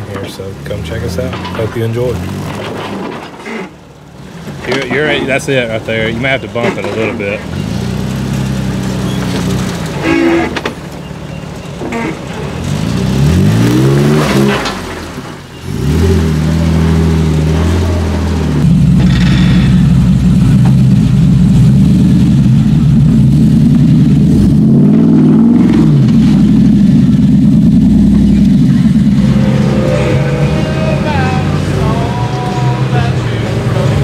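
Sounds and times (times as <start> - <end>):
engine revving under load: 0.0 - 10.8, 11.8 - 34.0.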